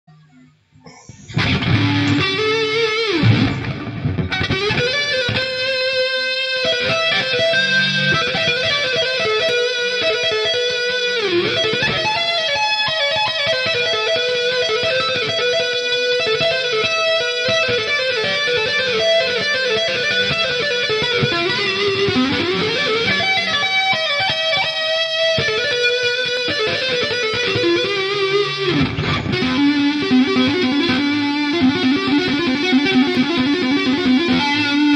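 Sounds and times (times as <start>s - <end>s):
electric guitar tapping runs: 1.3s - 34.9s.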